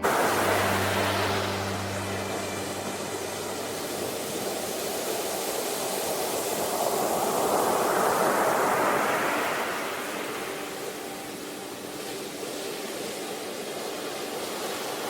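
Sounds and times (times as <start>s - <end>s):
sea wave breaking: 0.0s - 15.0s.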